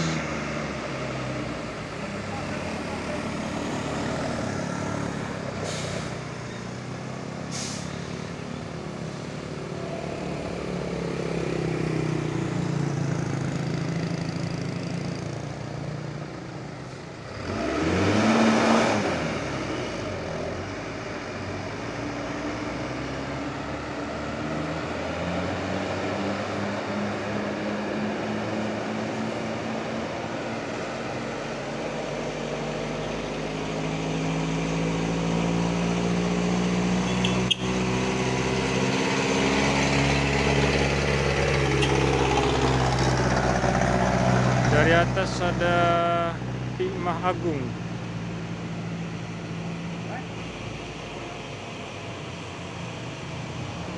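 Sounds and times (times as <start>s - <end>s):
bus engine revving: 0.0s - 53.9s
diesel bus engines running: 0.0s - 53.9s
vehicle passing by: 0.0s - 53.9s.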